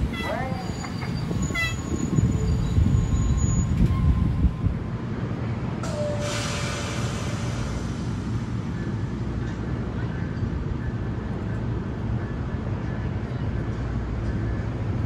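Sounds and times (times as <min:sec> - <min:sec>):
train coaches rolling on rails: 0:00.0 - 0:15.0.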